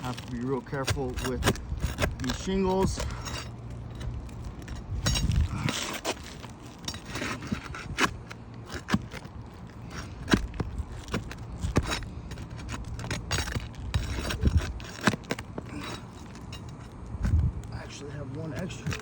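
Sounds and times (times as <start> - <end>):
gritty scraping on shingles: 0.0 - 19.0.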